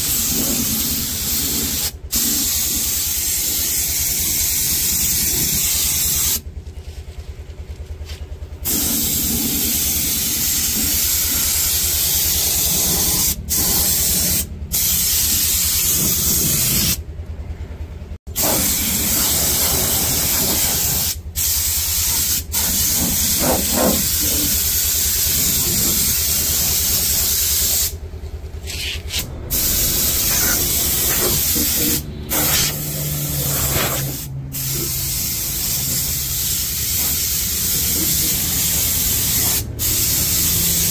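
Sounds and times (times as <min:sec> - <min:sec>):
spray gun hissing: 0:00.0 - 0:06.4, 0:08.6 - 0:17.0, 0:18.4 - 0:28.0, 0:29.5 - 0:40.9
steady low hum: 0:00.0 - 0:40.9.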